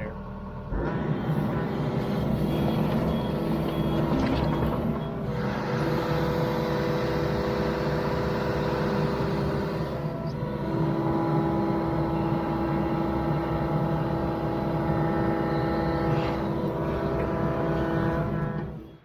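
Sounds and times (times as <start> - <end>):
steady whine: 0.7 - 19.0
excavator diesel engine under load: 0.8 - 19.0.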